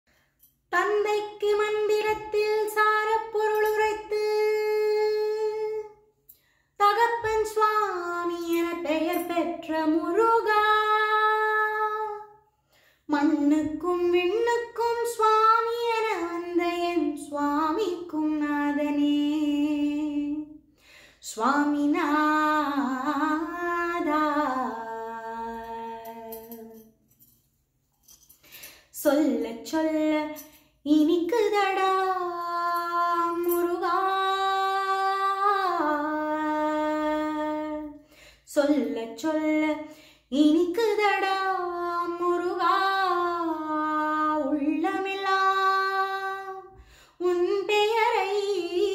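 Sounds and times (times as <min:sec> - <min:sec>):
woman singing unaccompanied: 0:00.7 - 0:06.0, 0:06.8 - 0:12.3, 0:13.1 - 0:20.6, 0:21.3 - 0:26.9, 0:29.0 - 0:48.9.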